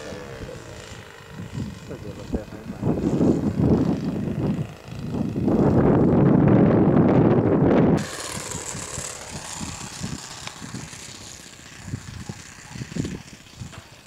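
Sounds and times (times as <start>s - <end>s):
distant model plane engine: 0.0s - 14.0s
wind buffeting microphone: 0.0s - 14.0s.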